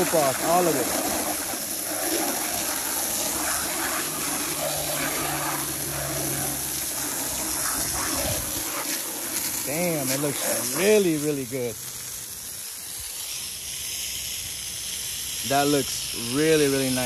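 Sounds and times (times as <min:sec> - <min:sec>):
hose spraying water jet: 0:00.0 - 0:17.0.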